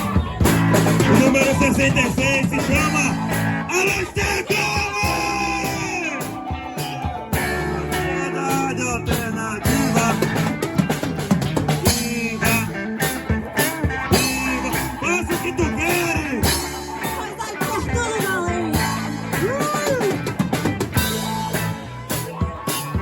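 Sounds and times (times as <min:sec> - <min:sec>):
drum kit beat: 0:00.0 - 0:23.0
guitar: 0:00.0 - 0:23.0
person singing: 0:00.3 - 0:10.7, 0:11.8 - 0:20.4.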